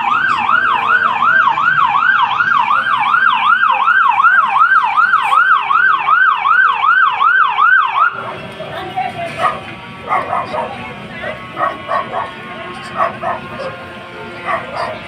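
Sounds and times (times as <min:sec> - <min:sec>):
fire truck siren yelping: 0:00.0 - 0:15.0.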